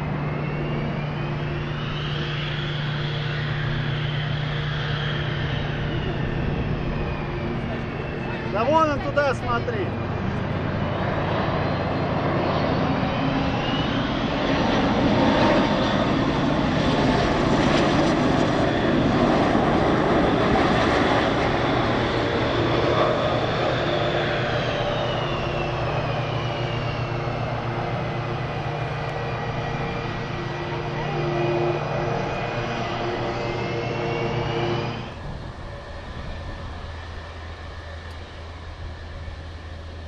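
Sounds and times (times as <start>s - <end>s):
jet engine rumble with whine: 0.0s - 40.0s.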